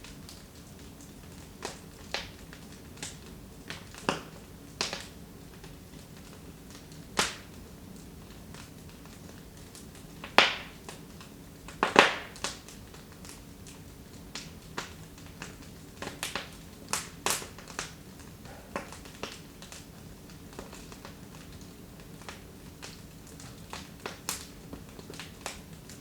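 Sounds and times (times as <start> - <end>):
burning wood popping: 0.0 - 26.0
wood fire crackling: 0.0 - 26.0.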